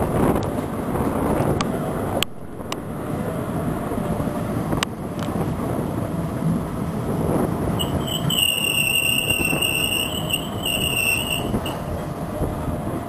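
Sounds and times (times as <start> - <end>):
train wheels rumbling on track: 0.0 - 13.0
wind buffeting microphone: 0.0 - 13.0.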